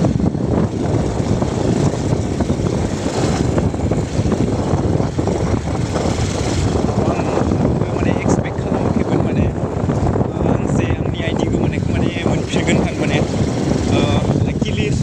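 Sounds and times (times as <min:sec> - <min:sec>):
motorcycle engine: 0:00.0 - 0:15.0
road noise: 0:00.0 - 0:15.0
wind buffeting microphone: 0:00.0 - 0:15.0.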